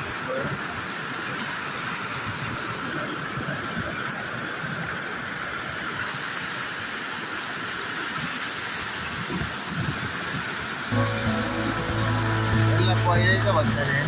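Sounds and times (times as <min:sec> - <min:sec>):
flood water roaring: 0:00.0 - 0:14.0.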